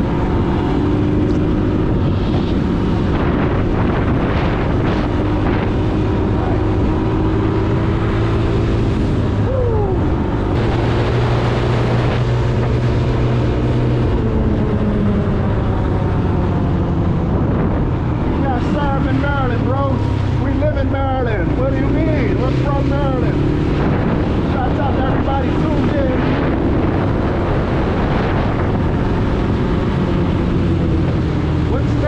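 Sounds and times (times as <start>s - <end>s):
wind on microphone: 0.0s - 32.0s.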